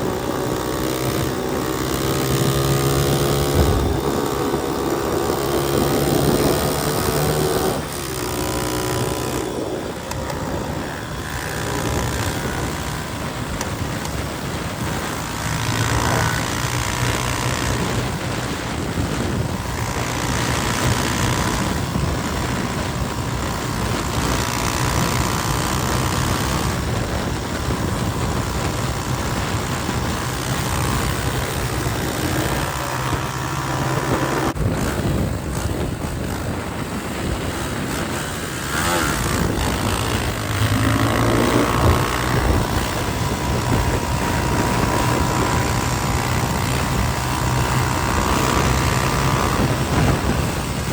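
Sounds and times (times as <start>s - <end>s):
motorcycle engine running: 0.0s - 50.9s
rush of noise: 0.0s - 50.9s.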